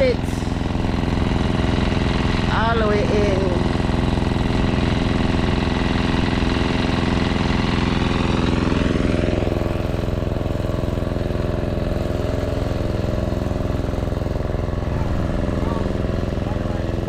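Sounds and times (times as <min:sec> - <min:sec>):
portable generator engine running: 0:00.0 - 0:17.0.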